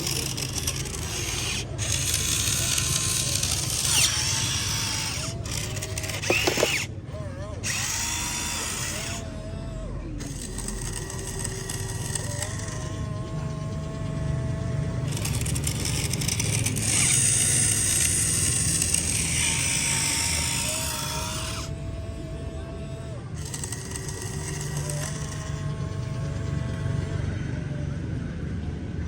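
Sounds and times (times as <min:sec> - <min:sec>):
small electric motors whining: 0:00.0 - 0:28.3
low rumble and hiss: 0:00.0 - 0:29.0.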